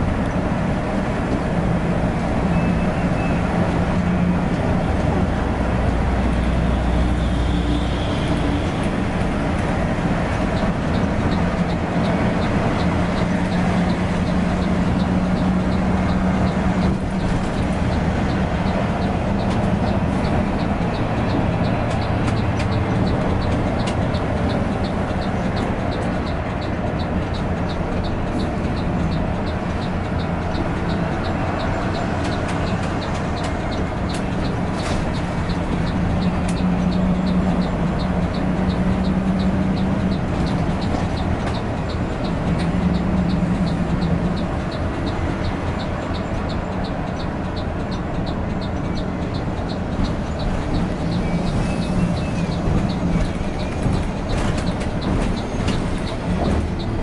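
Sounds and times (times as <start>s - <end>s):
coach engine hum: 0.0s - 57.0s
light regular ticking: 0.0s - 57.0s
road rumble: 0.0s - 57.0s.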